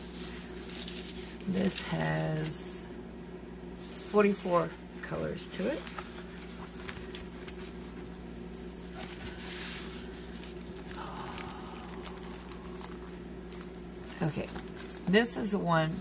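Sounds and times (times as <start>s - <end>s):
canvas and plastic film rustling: 0.0s - 2.8s, 3.8s - 16.0s
steady low hum: 0.0s - 16.0s.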